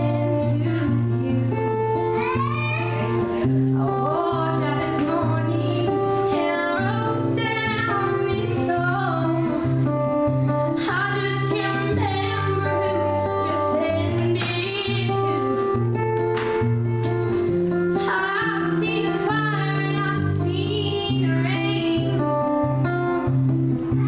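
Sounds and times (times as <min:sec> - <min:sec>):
woman singing into microphone: 0:00.0 - 0:16.0, 0:17.9 - 0:23.3
strummed acoustic guitar: 0:00.0 - 0:24.0.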